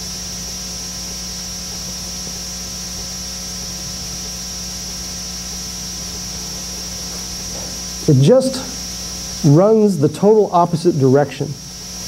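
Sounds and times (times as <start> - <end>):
constant hiss: 0.0 - 12.0
electrical mains hum: 0.0 - 12.0.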